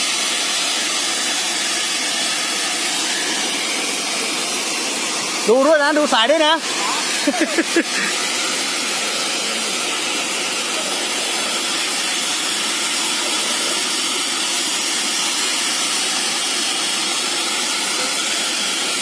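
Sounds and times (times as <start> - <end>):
high-pressure water jet hissing: 0.0 - 19.0.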